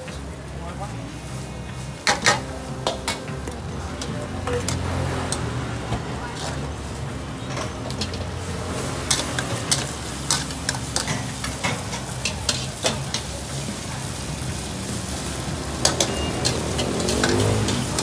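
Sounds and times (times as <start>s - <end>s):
vegetables sizzling in a wok: 0.0s - 18.0s
spatula clinking and scraping wok: 1.3s - 18.0s.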